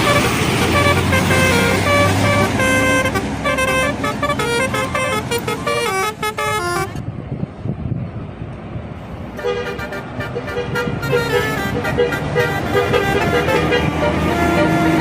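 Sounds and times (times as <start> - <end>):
bus horn playing tune: 0.0 - 7.0, 9.4 - 15.0.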